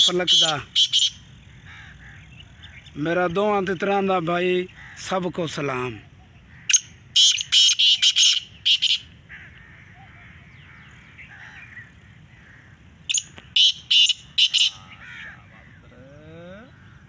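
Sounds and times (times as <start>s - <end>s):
francolin calling: 0.0s - 17.0s.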